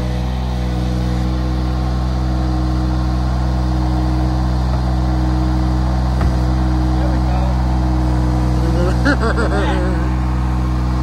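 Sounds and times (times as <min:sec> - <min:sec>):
skid steer engine running: 0:00.0 - 0:11.0.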